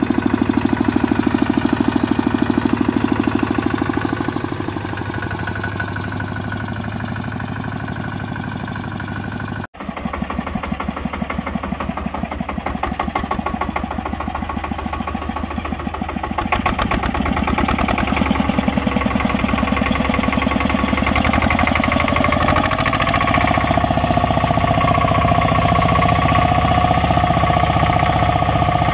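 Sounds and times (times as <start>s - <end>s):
diesel engine chugging: 0.0s - 28.9s.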